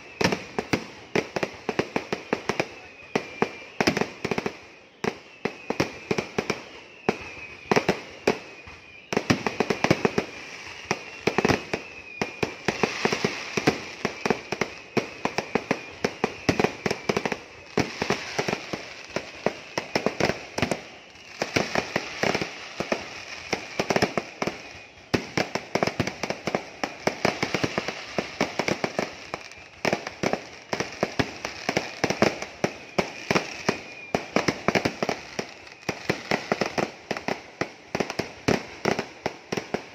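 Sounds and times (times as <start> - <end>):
fireworks bangs: 0.0 - 39.9
high wavering whistle: 0.0 - 39.9.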